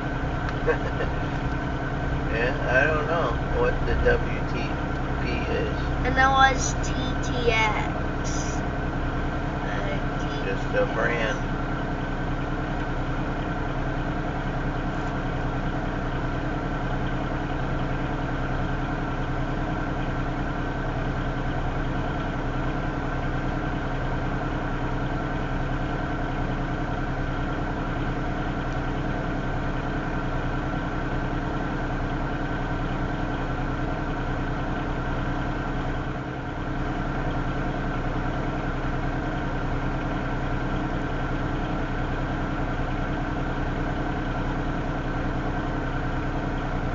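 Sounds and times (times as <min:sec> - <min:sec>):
diesel locomotives idling: 0:00.0 - 0:46.9.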